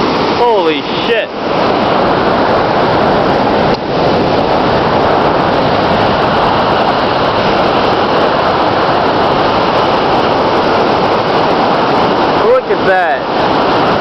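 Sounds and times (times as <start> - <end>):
floodwater rushing through gates: 0.0 - 14.0.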